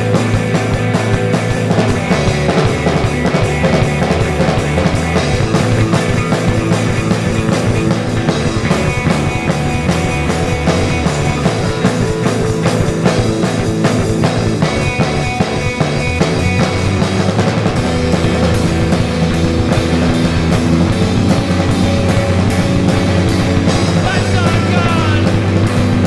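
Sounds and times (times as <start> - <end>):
drum kit: 0.0 - 26.0
electric bass: 0.0 - 26.0
electric guitar: 0.0 - 26.0.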